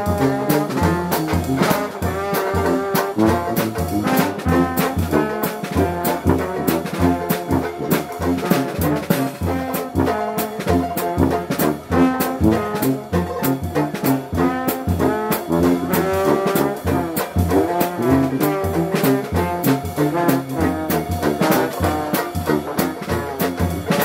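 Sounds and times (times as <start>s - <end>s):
jazz band playing: 0.0s - 24.0s
trombone: 0.0s - 24.0s
trumpet: 0.0s - 24.0s.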